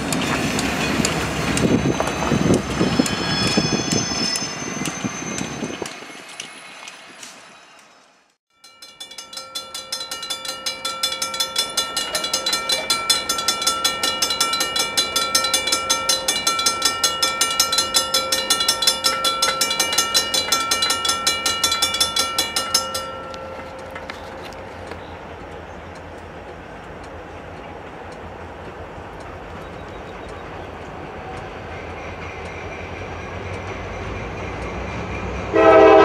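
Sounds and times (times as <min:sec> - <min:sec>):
railroad crossing bell ringing: 0:00.7 - 0:06.4, 0:07.4 - 0:27.4, 0:29.2 - 0:31.8, 0:32.4 - 0:36.0.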